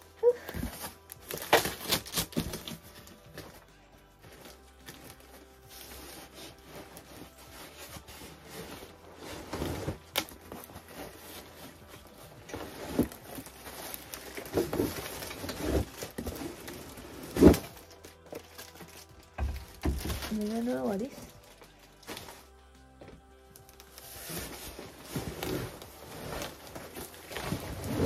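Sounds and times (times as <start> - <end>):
packaging rustling and crinkling: 0.2 - 28.0.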